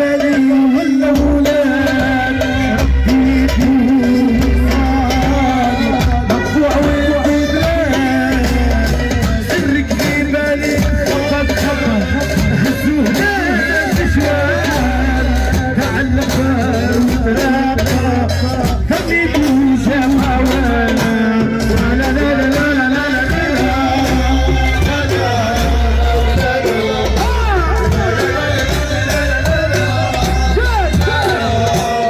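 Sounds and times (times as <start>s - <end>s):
amplified wedding music backing: 0.0s - 32.0s
man singing into a microphone: 0.0s - 32.0s.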